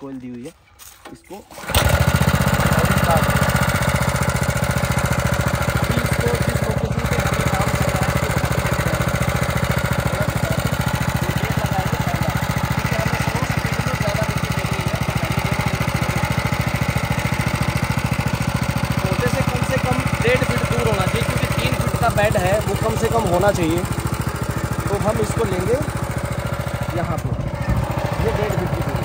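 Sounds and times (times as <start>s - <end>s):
petrol engine idling: 1.6s - 29.0s.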